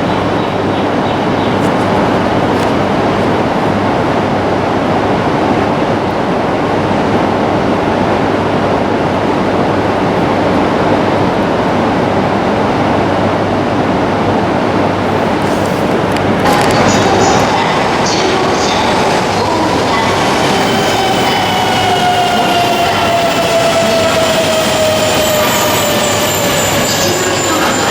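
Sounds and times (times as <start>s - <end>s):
train rushing noise: 0.0s - 27.9s.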